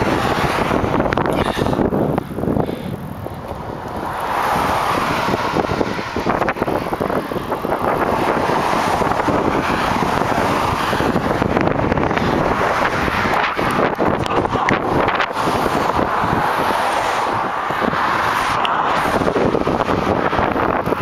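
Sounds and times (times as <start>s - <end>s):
cars passing: 0.0s - 21.0s
wind rushing over microphone: 0.0s - 21.0s.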